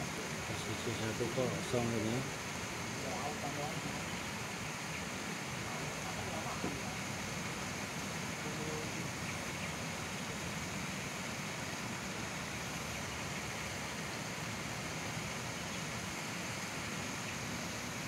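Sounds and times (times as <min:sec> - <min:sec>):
outdoor background rush: 0:00.0 - 0:18.0.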